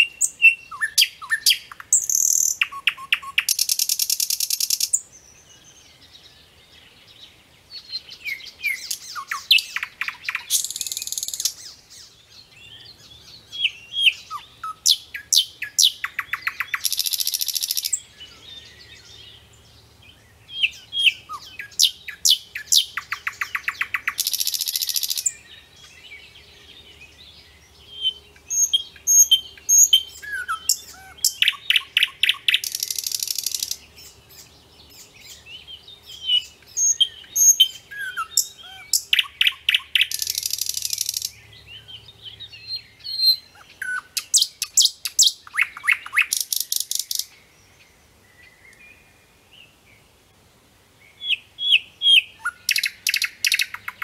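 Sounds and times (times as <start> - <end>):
nightingale singing: 0.0 - 50.3, 50.9 - 54.0.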